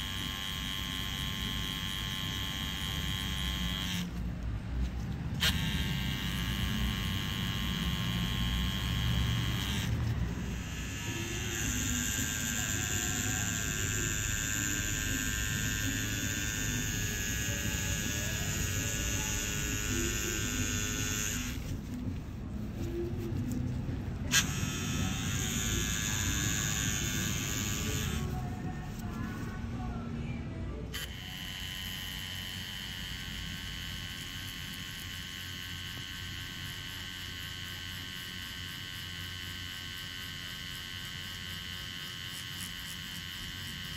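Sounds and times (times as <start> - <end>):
tattoo machine click: 0.0 - 4.2, 5.4 - 21.6, 24.3 - 28.4, 30.9 - 43.9
tattoo machine buzzing: 0.0 - 29.6, 30.9 - 43.9.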